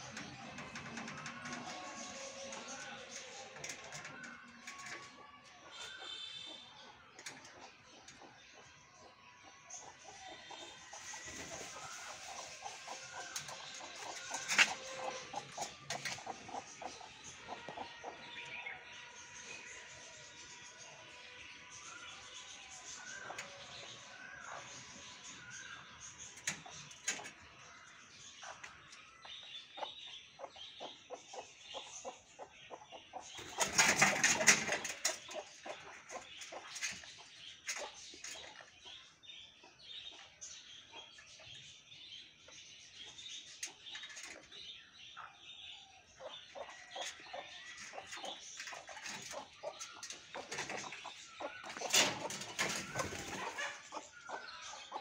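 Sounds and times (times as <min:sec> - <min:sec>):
birds clucking: 0:00.0 - 0:55.0.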